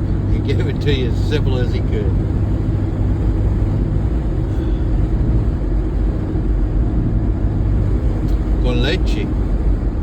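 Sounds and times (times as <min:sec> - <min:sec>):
vehicle driving rumble: 0:00.0 - 0:10.0.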